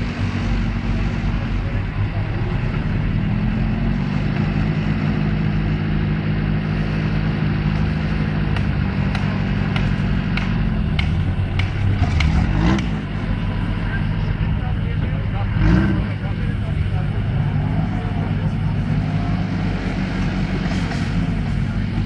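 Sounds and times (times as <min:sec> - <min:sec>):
off-road vehicle engine pulling: 0:00.0 - 0:22.0.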